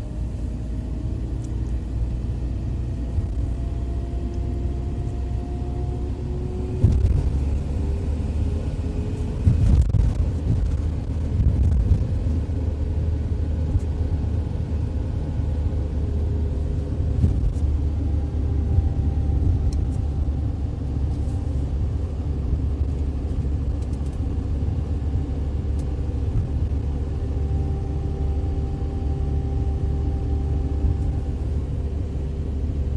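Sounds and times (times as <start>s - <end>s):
faint drone: 0.0s - 32.9s
van engine and road rumble: 0.0s - 32.9s.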